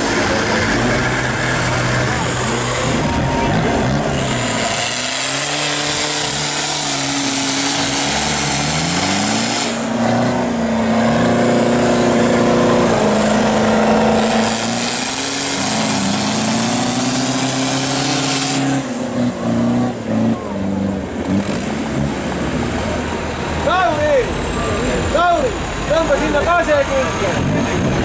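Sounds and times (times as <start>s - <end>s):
truck engines revving: 0.0s - 28.0s.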